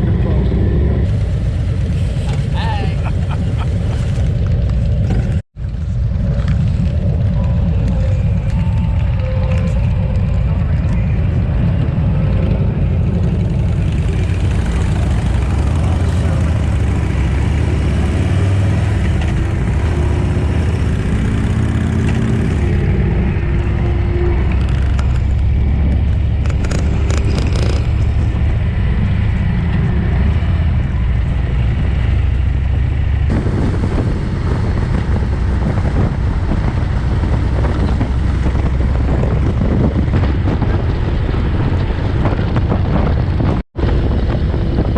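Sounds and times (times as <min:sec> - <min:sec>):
motorcycle engine running: 0:00.0 - 0:44.9
wind rumble: 0:00.0 - 0:44.9.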